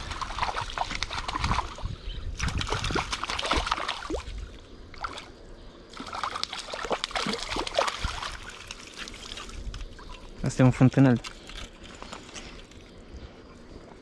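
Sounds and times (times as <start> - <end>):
water splashing in a stream: 0.0 - 11.7.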